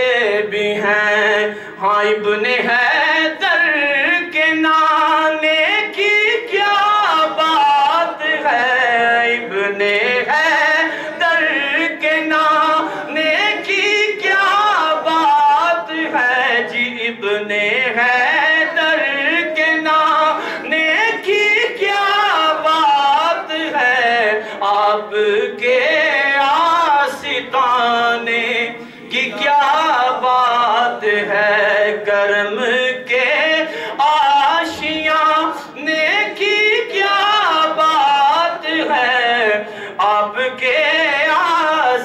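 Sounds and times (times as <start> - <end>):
man singing into a microphone: 0.0 - 42.0.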